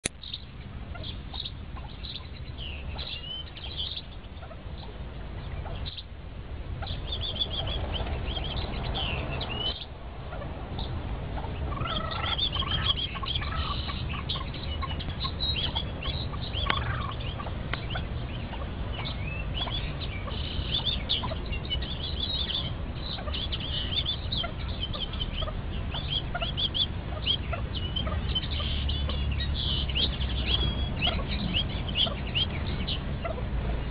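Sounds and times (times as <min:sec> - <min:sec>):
low steady rumble: 0:00.0 - 0:33.9
chicks peeping: 0:00.1 - 0:33.9.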